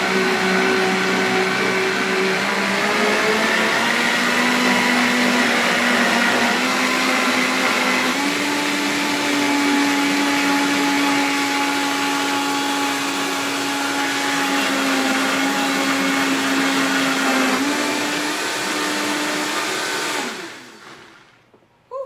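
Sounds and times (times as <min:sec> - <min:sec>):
blender running: 0:00.0 - 0:21.5.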